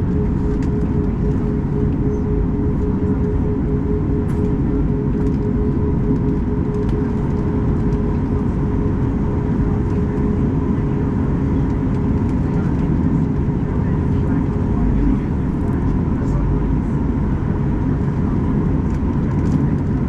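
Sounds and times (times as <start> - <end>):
airplane cabin rumble: 0.0 - 20.0
jet engine whine: 0.0 - 20.0.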